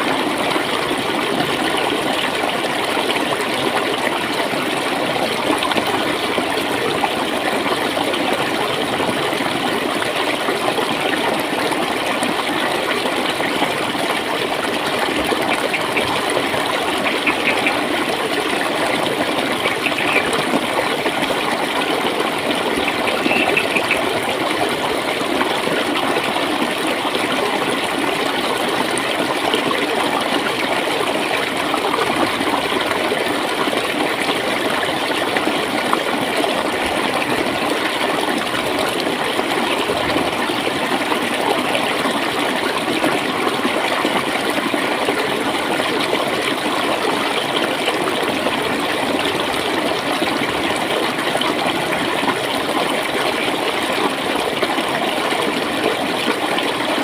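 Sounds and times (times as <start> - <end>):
water gurgling: 0.0 - 57.0.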